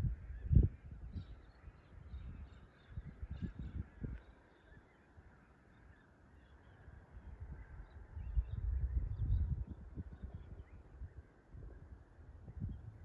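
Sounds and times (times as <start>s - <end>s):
distant bird calls: 0.0s - 13.0s.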